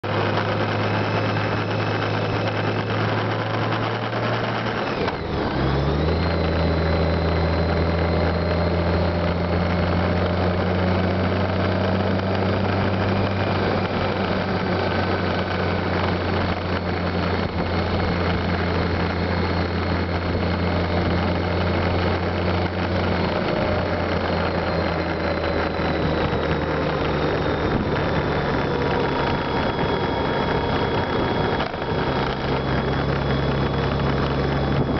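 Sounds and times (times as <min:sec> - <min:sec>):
motorcycle engine hum: 0:00.0 - 0:34.9
wind and road noise: 0:00.0 - 0:34.9.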